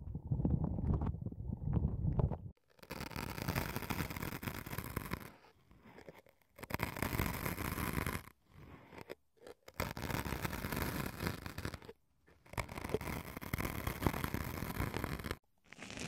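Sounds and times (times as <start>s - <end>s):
ear pick scratching foam: 2.6s - 16.0s.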